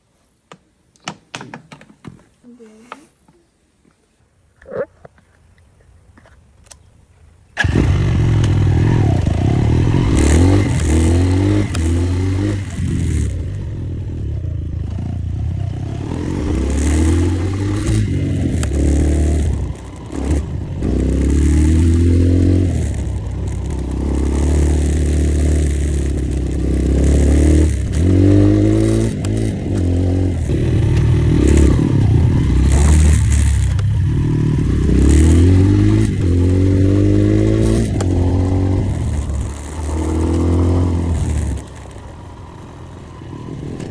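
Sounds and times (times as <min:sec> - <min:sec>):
motorcycle engine revving: 0:07.6 - 0:43.9.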